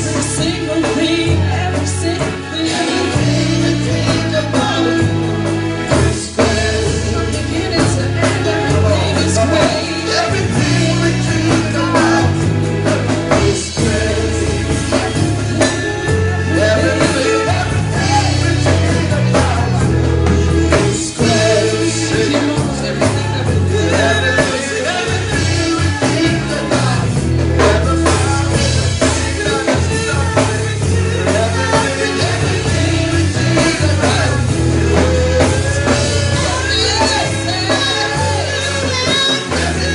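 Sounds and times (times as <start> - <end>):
live band with singing: 0.0 - 39.9.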